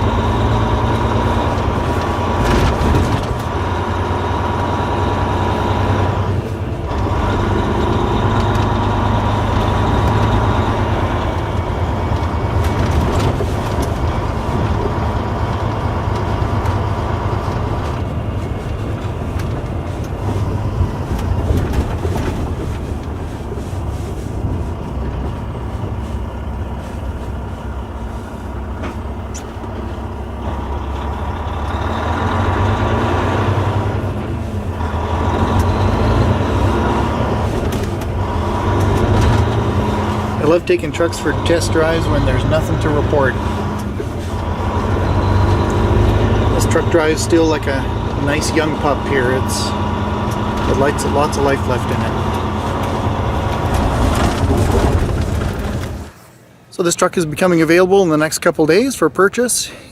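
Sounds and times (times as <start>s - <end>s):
diesel truck engine: 0.0s - 59.9s
road and tyre noise: 0.0s - 59.9s.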